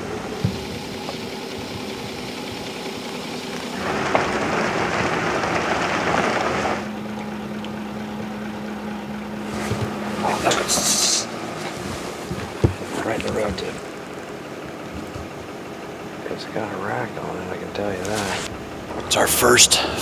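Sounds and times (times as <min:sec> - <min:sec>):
low hum: 0:00.0 - 0:20.0
vehicle engine running: 0:00.0 - 0:20.0.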